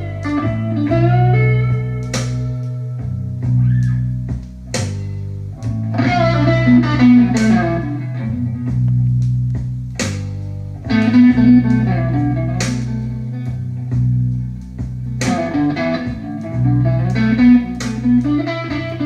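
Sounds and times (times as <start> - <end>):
electric guitar solo: 0.0 - 4.4, 5.6 - 9.3, 10.8 - 19.0
held bass notes: 0.0 - 19.0.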